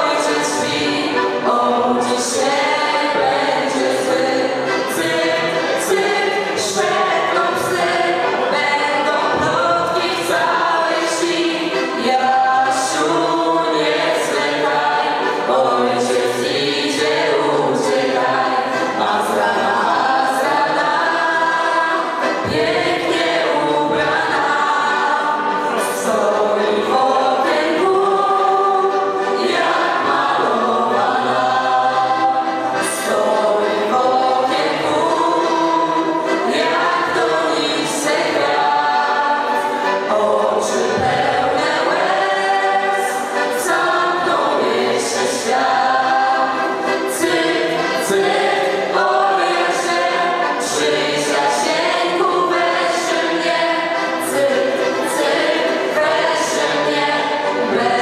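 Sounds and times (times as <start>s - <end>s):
piano accordion: 0.0s - 58.0s
young voices singing folk song: 0.0s - 58.0s.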